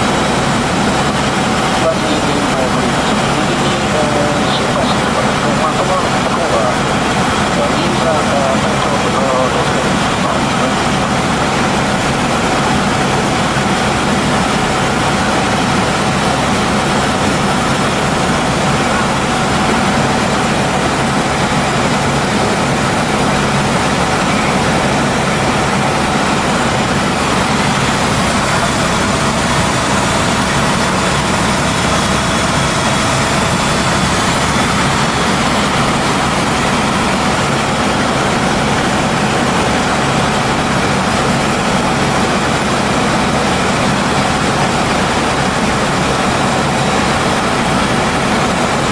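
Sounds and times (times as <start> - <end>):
helicopter rumble from cabin: 0.0 - 48.9.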